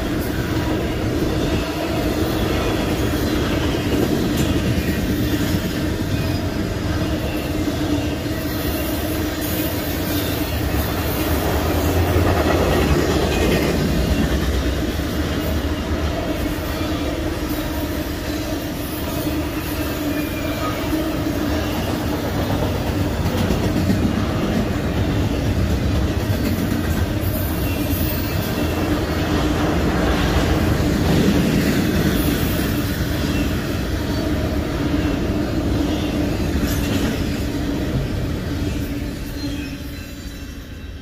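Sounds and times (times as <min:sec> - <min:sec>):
wheels clattering on rails: 0:00.0 - 0:40.3.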